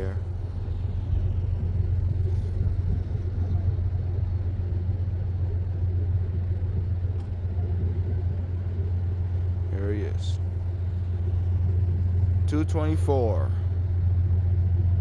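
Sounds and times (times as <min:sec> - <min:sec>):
distant diesel locomotive rumble: 0:00.0 - 0:15.0.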